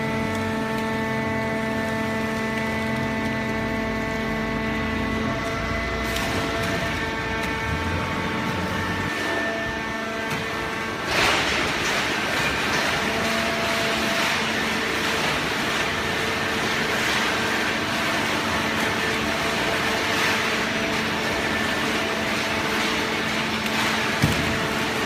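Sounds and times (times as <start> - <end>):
baler motor and pump hum: 0.0 - 25.0.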